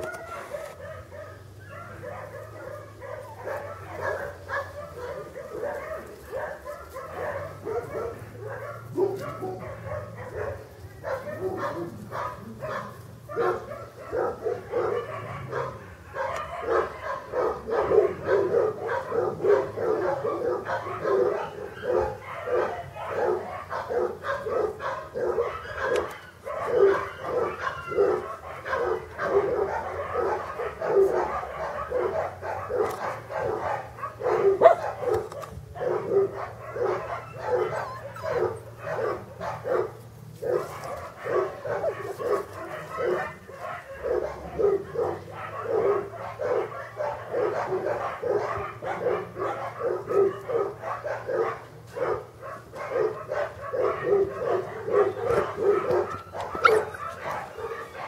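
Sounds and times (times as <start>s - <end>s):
puppies yipping and barking: 0.0s - 58.0s.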